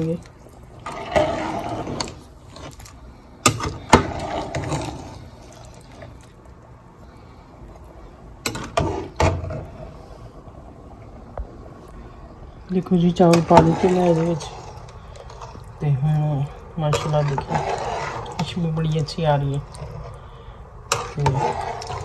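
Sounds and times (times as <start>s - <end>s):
spoon stirring broth in a pan: 0.0s - 6.6s, 7.7s - 9.8s, 13.0s - 22.0s.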